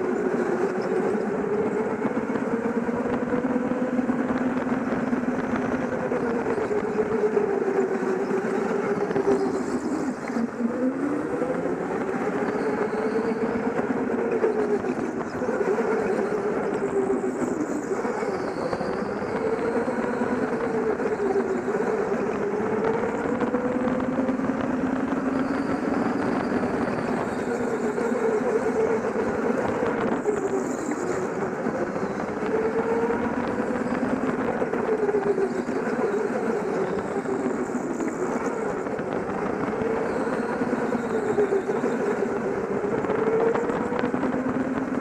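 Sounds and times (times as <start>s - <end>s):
go-kart motor drone: 0.0s - 45.0s
other go-kart motors: 0.0s - 45.0s.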